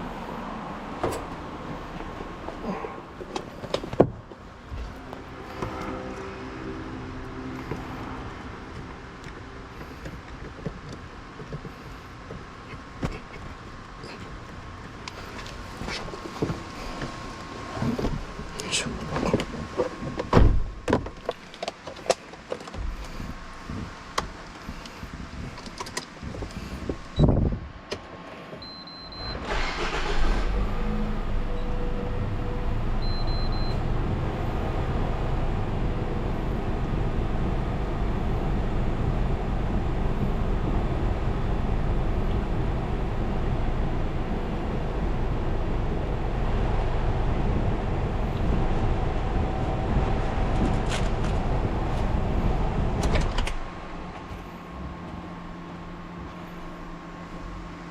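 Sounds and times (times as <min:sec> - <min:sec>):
car engine starting and idling: 0:00.0 - 0:57.9.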